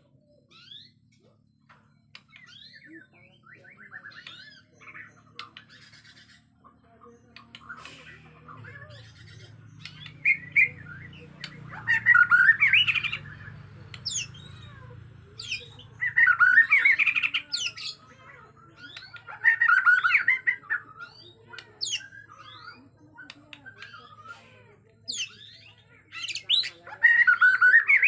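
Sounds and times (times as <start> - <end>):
bird chattering song: 0.0 - 28.0.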